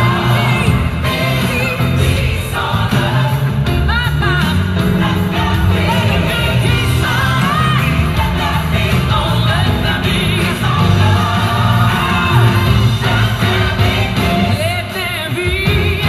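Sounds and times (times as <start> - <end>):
strong bass: 0.0 - 16.0.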